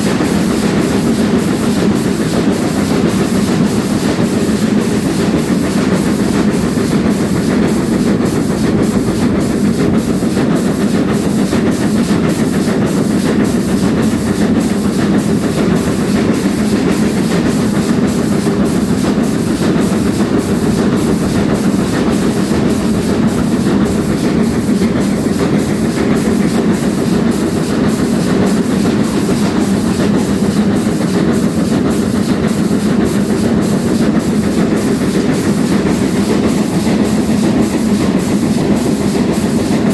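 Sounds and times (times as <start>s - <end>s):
steam train rumbling: 0.0s - 39.9s.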